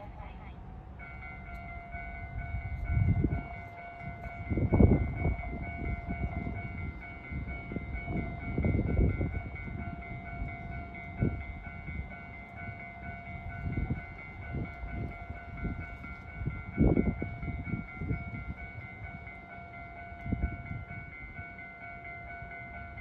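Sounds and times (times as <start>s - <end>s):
railway warning tone: 0.0s - 23.0s.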